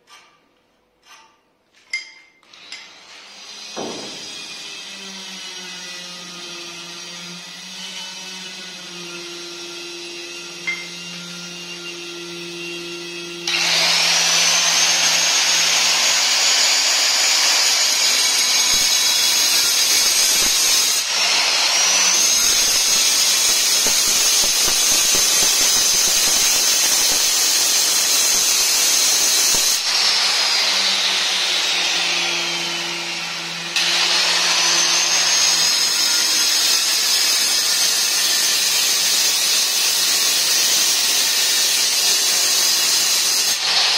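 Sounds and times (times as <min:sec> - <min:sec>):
electric stone cutter whining: 0:02.4 - 0:43.9.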